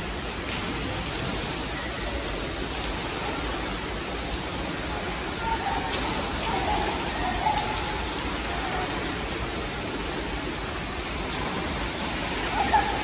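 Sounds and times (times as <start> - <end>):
swimming pool water and air noise: 0.0 - 13.0.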